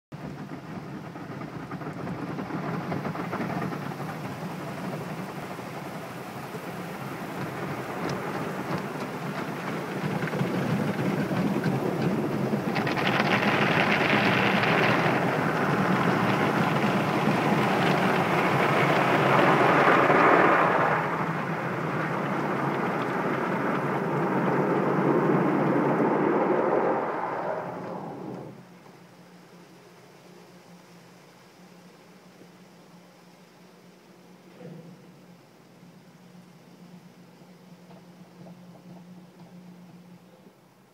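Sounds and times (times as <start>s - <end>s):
car wash jets and brushes: 0.2s - 40.8s.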